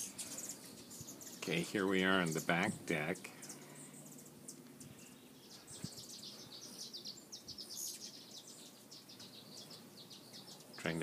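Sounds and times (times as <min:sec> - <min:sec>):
background hiss: 0:00.0 - 0:11.0
small birds chirping: 0:00.0 - 0:11.0.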